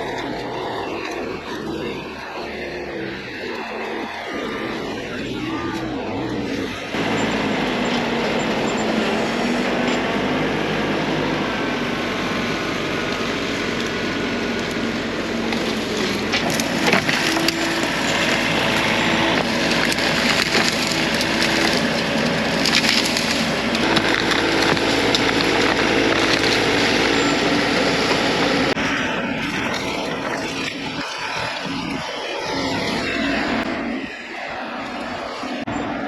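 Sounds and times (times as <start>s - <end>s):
trees and brush cracking: 0.0s - 33.9s
excavator engine under hydraulic load: 0.0s - 36.0s.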